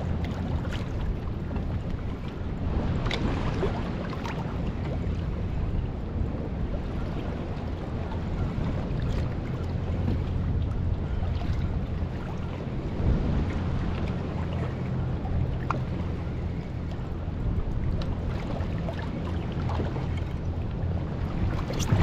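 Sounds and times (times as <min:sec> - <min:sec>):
water splashing around boat: 0:00.0 - 0:22.0
wind buffeting microphone: 0:00.0 - 0:22.0.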